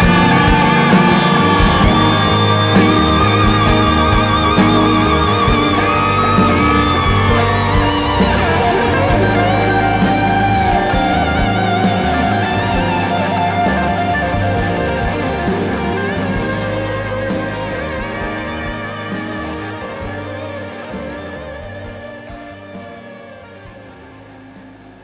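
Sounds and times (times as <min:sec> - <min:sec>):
bass guitar: 0:00.0 - 0:25.0
drums and cymbals: 0:00.0 - 0:25.0
electric guitar lead with vibrato: 0:00.0 - 0:25.0.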